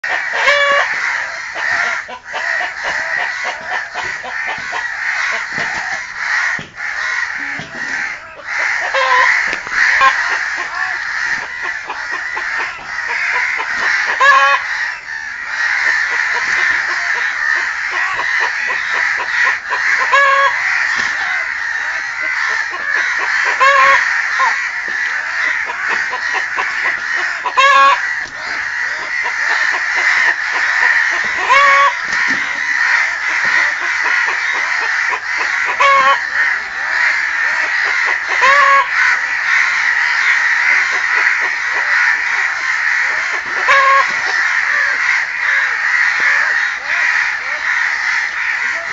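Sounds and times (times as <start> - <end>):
chickens calling: 0.0 - 48.9
crows cawing: 0.0 - 48.9.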